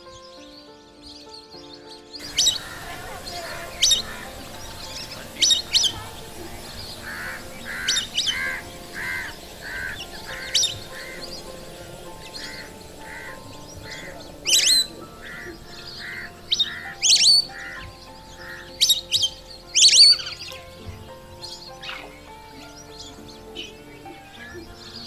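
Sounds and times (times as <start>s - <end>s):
soft background music: 0.0s - 25.0s
soft bird calls: 0.0s - 25.0s
ducks whistling: 2.2s - 25.0s.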